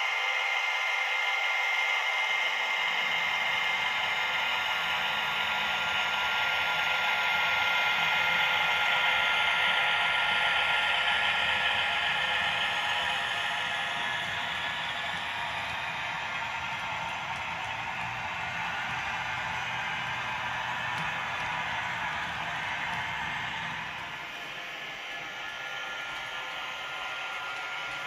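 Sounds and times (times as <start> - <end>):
model locomotive hiss and whine: 0.0 - 28.0
model train rolling rumble: 3.0 - 28.0.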